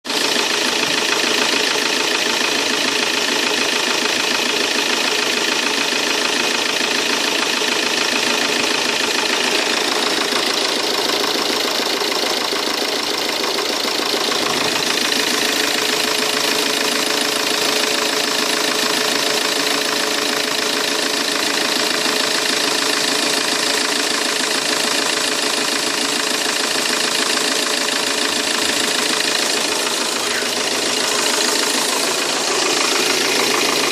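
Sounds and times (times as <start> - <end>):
diesel engine idling with clatter: 0.1 - 33.9.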